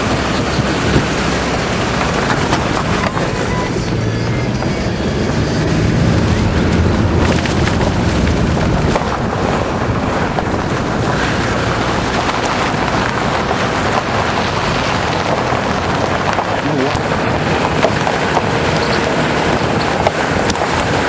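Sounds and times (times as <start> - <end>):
low engine hum: 0.0 - 21.0
wind noise on microphone: 0.0 - 21.0.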